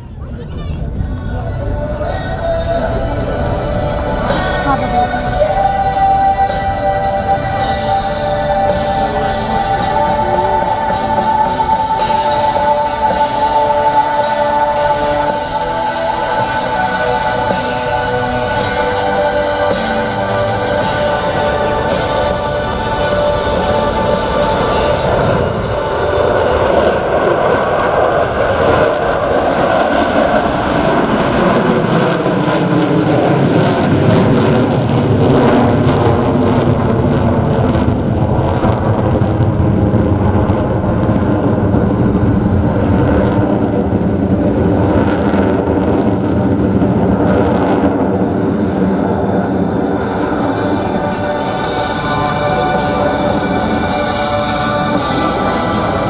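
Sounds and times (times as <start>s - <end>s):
jet engines flying past: 0.0s - 56.0s.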